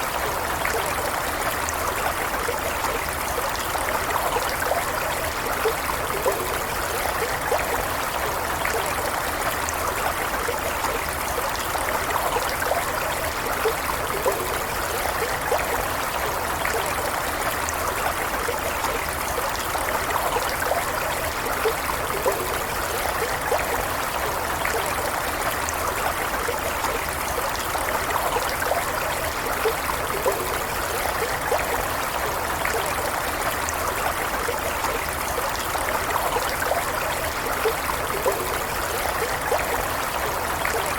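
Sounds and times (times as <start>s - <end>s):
stream water flowing over stones: 0.0s - 40.9s.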